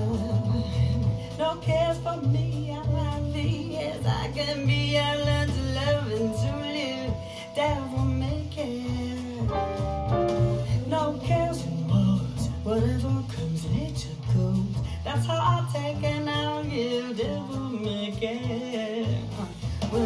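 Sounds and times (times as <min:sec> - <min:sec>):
jazz music through loudspeaker: 0:00.0 - 0:20.0.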